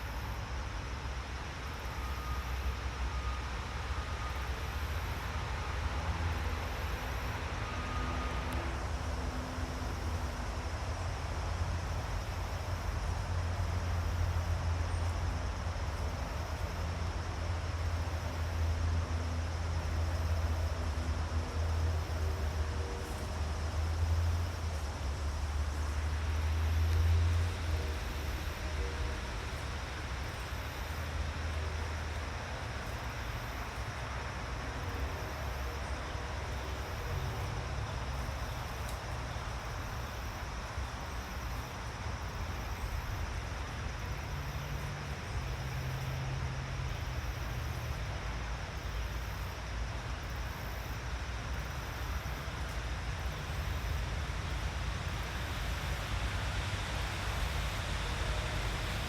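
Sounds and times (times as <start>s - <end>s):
forest ambience hiss: 0.0s - 59.0s.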